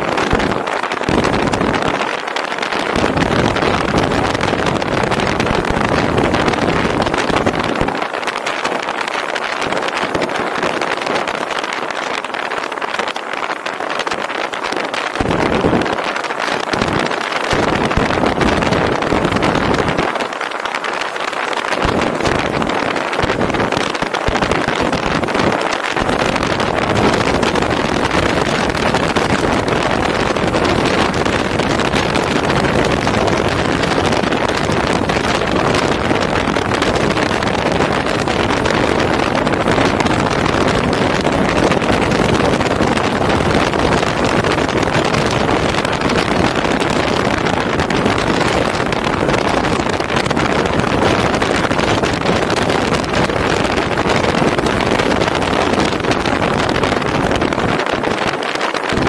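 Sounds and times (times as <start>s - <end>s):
wind rushing on microphone: 0.0s - 59.0s.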